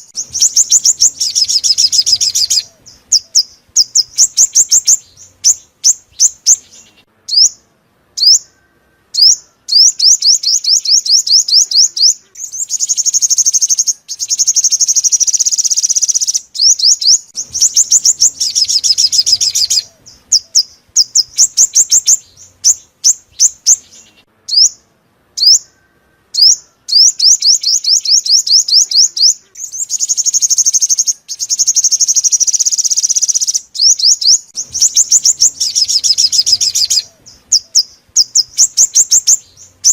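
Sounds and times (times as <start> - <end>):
sunbird trilling song: 0.0 - 39.9.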